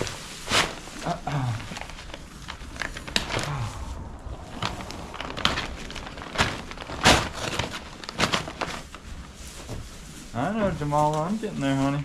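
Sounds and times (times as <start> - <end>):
paper bag tearing and rustling: 0.0 - 12.0.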